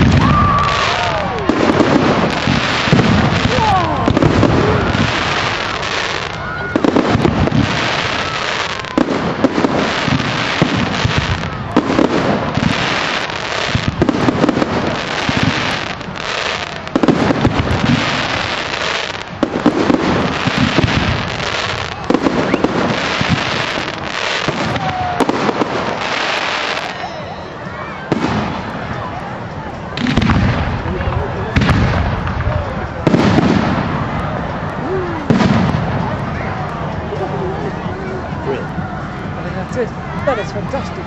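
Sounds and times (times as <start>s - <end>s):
firework shells booming: 0.0s - 27.1s, 28.1s - 29.0s, 29.9s - 36.3s
fireworks crackling: 0.0s - 41.0s.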